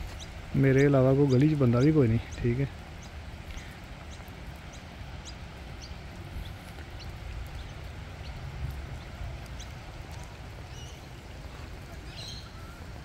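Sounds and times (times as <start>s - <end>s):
low rumble and soft hiss: 0.0s - 13.0s
small birds chirping: 0.0s - 13.0s.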